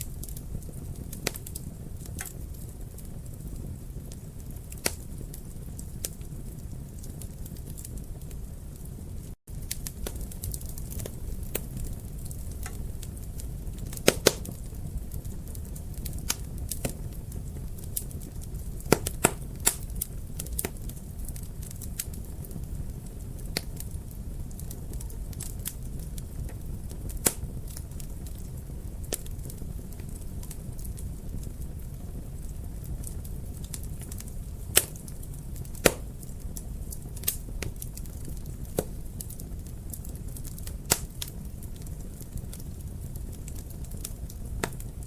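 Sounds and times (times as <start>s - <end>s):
sharp pops of fire: 0.0s - 45.0s
wood fire crackling: 0.0s - 45.0s.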